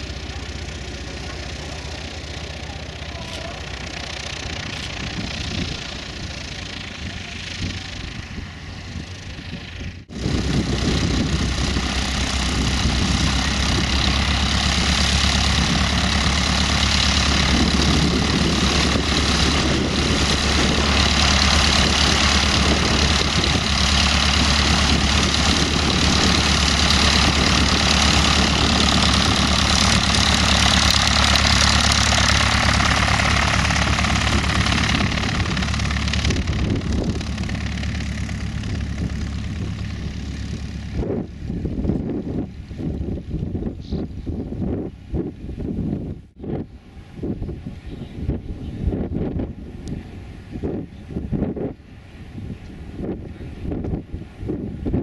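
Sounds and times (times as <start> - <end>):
propeller plane engine running: 0.0 - 55.0.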